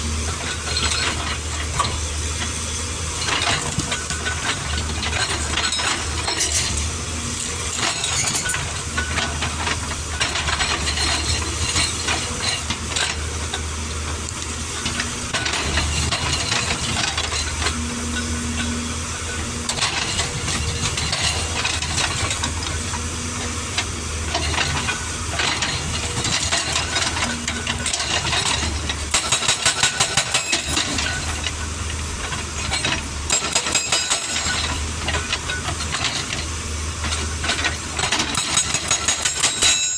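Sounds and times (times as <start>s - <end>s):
excavator diesel engine running: 0.0s - 39.6s
hydraulic rock breaker hammering: 0.3s - 39.9s.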